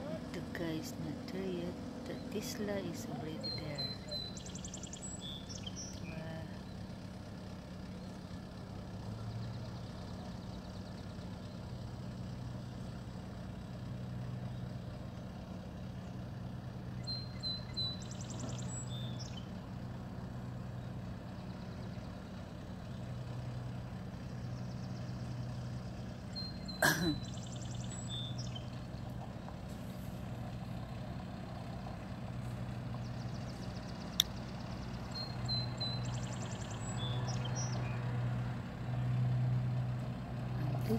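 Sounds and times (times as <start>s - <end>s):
birds chirping: 0.0s - 40.9s
diesel truck engine idling: 0.0s - 40.9s.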